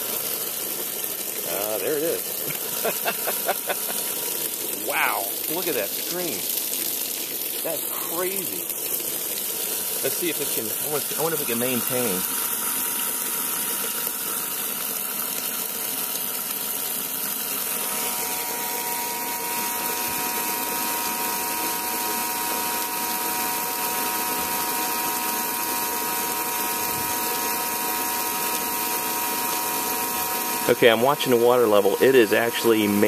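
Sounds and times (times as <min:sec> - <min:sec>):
bilge pump whine: 0:00.0 - 0:33.0
water rushing from hose: 0:00.0 - 0:33.0.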